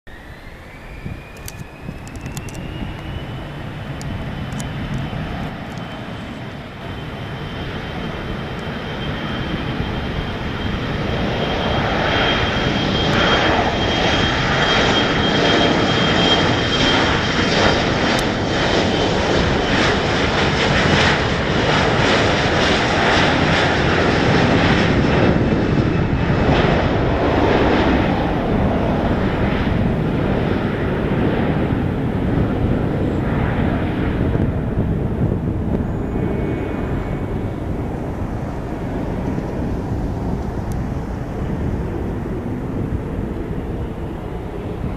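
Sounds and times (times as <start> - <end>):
jet engines whining on takeoff: 0.1 - 44.9.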